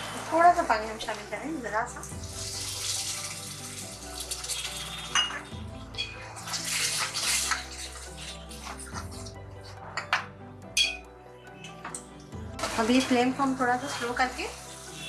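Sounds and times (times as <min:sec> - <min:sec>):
spices hissing and sizzling in oil: 0:00.0 - 0:10.1, 0:11.4 - 0:15.0
metal spoon stirring in pot: 0:02.0 - 0:15.0.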